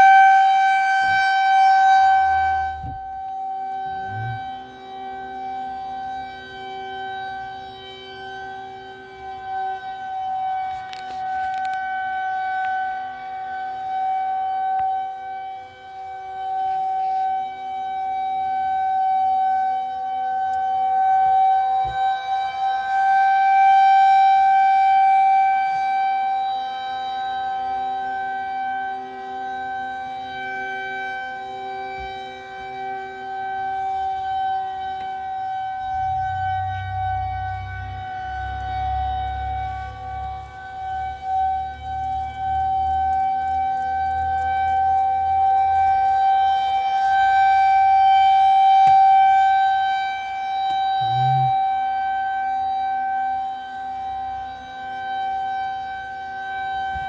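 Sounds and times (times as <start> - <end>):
rotating siren steady tone: 0.0 - 57.0.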